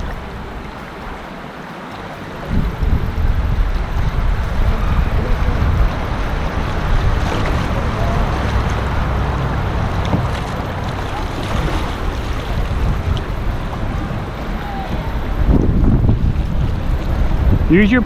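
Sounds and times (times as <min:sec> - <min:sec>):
creek water flowing: 0:00.0 - 0:18.0
wind buffeting microphone: 0:00.0 - 0:18.0.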